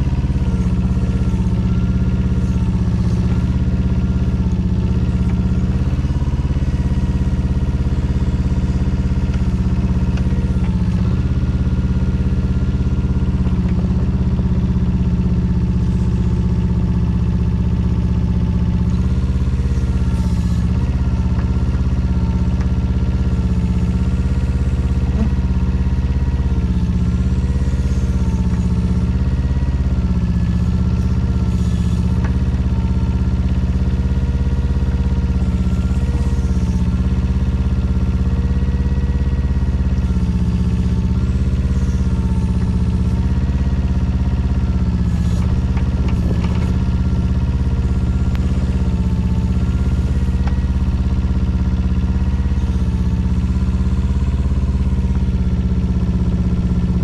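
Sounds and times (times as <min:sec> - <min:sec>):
small diesel engine running: 0:00.0 - 0:57.0.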